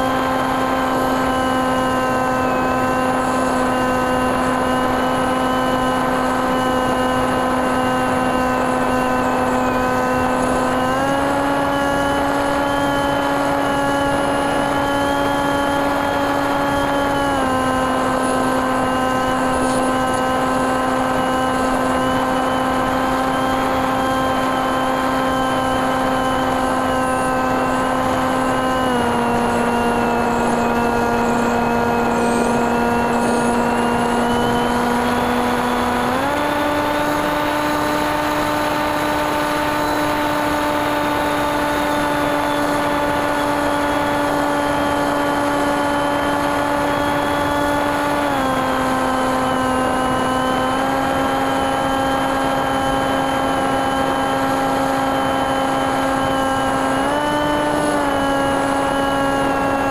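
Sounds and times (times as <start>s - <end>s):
propeller motor buzzing: 0.0s - 59.9s.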